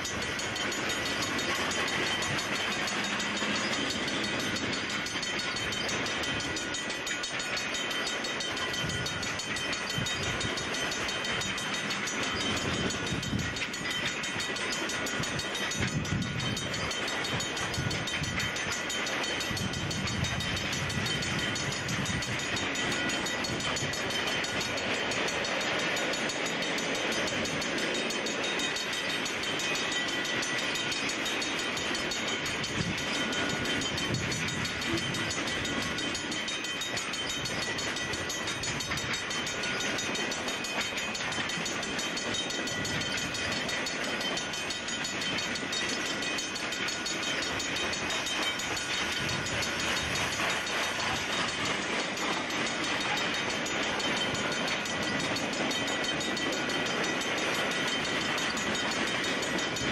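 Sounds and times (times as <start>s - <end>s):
high-pitched ringing tones: 0.0s - 59.9s
train wheels clattering on rails: 0.0s - 59.9s.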